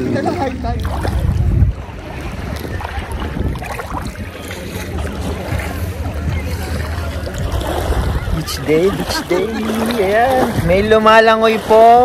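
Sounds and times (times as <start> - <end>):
sea water lapping and splashing: 0.0 - 12.0
steady low rumble: 0.0 - 12.0.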